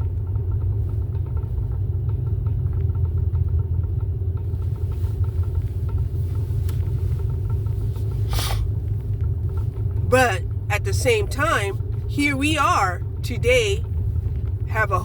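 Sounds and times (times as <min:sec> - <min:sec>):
car rumbling on the move: 0:00.0 - 0:15.0.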